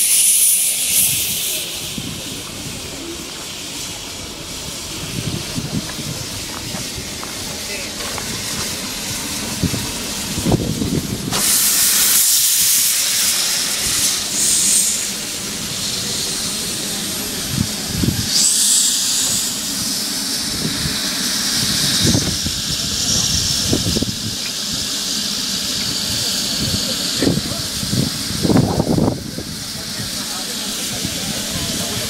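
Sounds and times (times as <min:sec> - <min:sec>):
steam locomotive hissing: 0:00.0 - 0:32.0.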